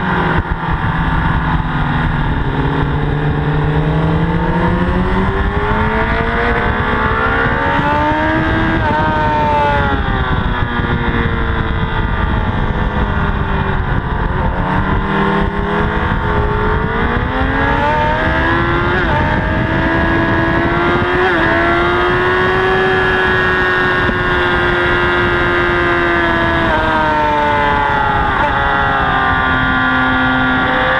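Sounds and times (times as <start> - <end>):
motorcycle engine at high revs: 0.0 - 30.9
wind rush on camera: 0.0 - 30.9.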